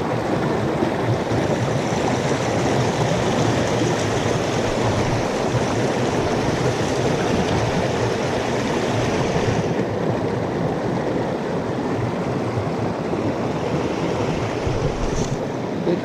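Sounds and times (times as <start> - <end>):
mountain stream rushing: 0.0 - 16.0.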